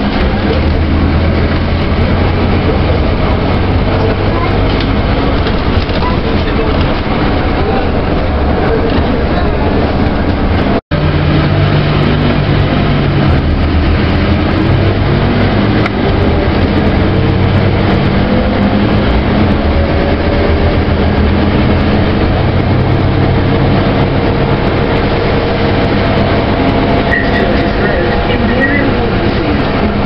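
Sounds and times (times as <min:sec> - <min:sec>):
bus engine running: 0:00.0 - 0:30.0.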